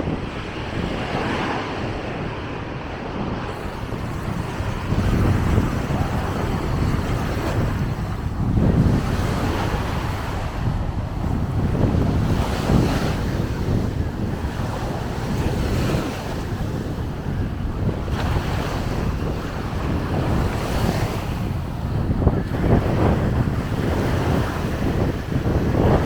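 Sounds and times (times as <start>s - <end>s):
sea waves washing onto beach: 0.0s - 26.0s
wind buffeting microphone: 0.0s - 26.0s.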